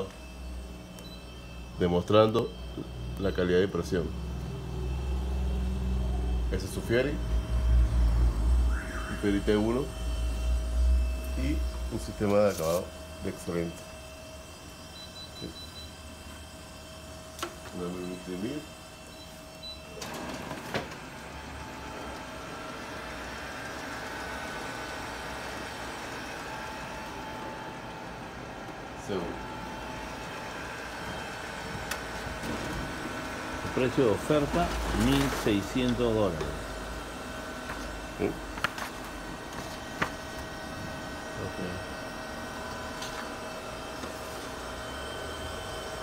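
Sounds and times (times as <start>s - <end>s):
faint high whining tones: 0.0s - 38.5s
printer mechanical hum: 0.0s - 46.0s.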